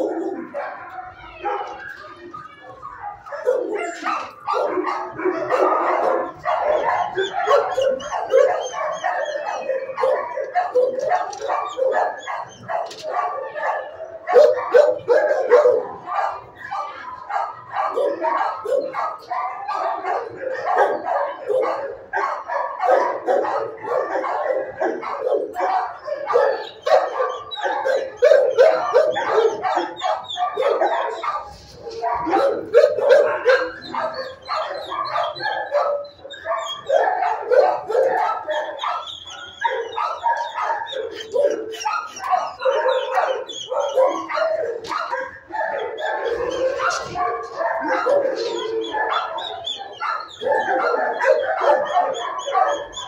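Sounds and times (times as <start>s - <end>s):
many dogs barking: 0.0s - 53.0s.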